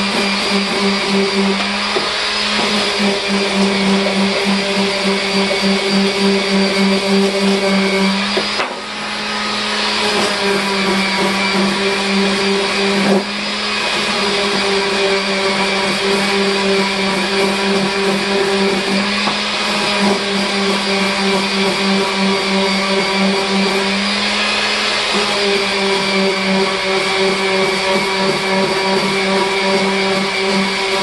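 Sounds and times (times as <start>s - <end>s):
electric power tool running: 0.0s - 31.0s.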